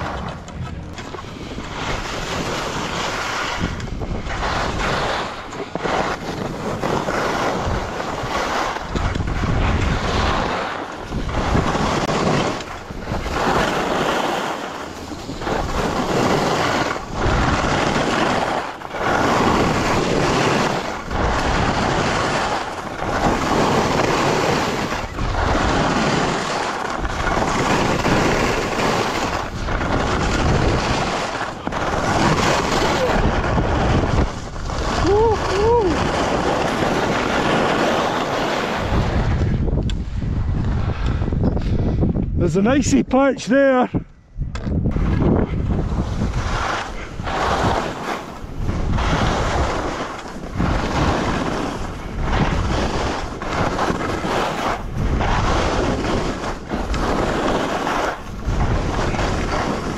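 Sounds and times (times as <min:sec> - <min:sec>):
wind on microphone: 0:00.0 - 0:59.9
skis hissing over snow: 0:01.3 - 0:08.8, 0:09.5 - 0:39.3, 0:45.9 - 0:59.9.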